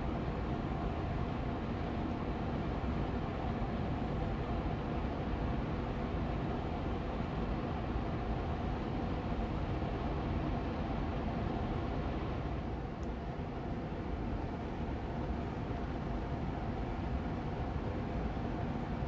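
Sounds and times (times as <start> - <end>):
air purifier fan running: 0.0 - 19.0.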